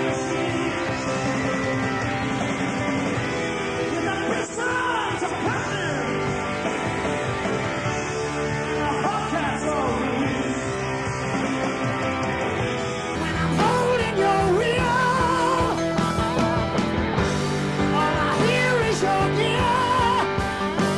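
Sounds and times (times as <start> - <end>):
person singing: 0.0 - 7.0, 8.6 - 12.2, 13.1 - 20.9
drums: 0.0 - 20.9
guitar: 0.0 - 20.9.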